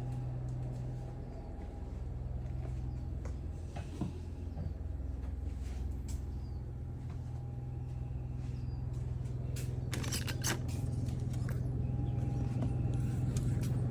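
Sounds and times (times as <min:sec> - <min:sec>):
low engine hum: 0:00.0 - 0:13.9.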